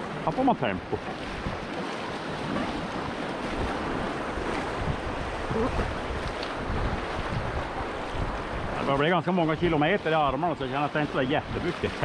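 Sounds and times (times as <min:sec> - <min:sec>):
wind buffeting microphone: 0:00.8 - 0:12.0.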